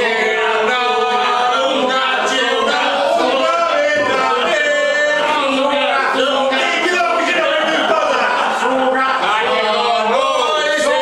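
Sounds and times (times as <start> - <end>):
men singing unaccompanied: 0.0 - 11.0.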